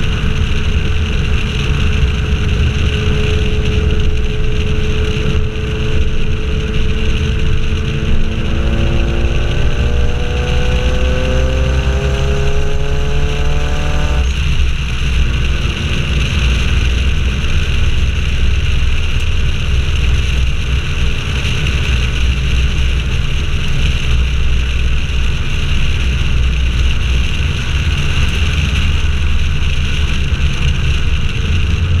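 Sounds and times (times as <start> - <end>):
car engine revving: 0.0 - 32.0
road noise: 0.0 - 32.0.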